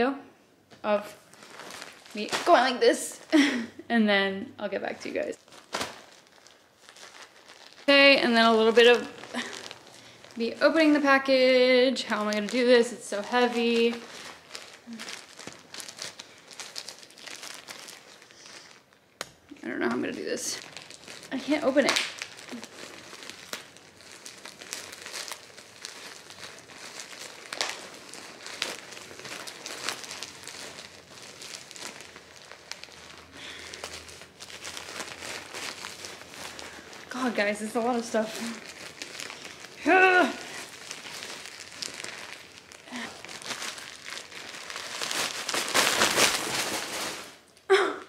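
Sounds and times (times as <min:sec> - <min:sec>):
packaging crinkling: 0:01.2 - 0:03.6, 0:05.0 - 0:19.0, 0:19.9 - 0:47.6.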